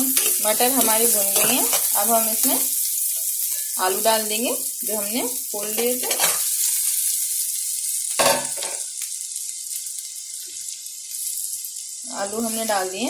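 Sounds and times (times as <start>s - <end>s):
hot oil sizzling in a pan: 0.0s - 13.0s.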